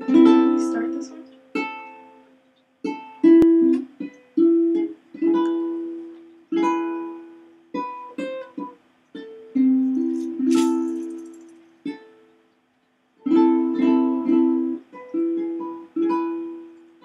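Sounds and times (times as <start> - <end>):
plucked string instrument: 0.0 - 12.4, 13.2 - 17.0.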